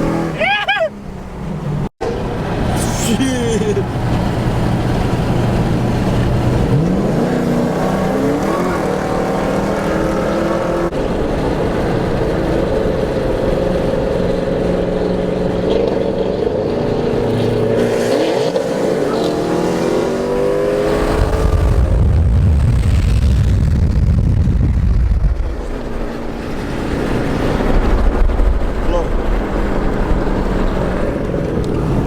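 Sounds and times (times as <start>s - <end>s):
car engine accelerating hard: 1.7s - 23.1s, 25.2s - 32.0s.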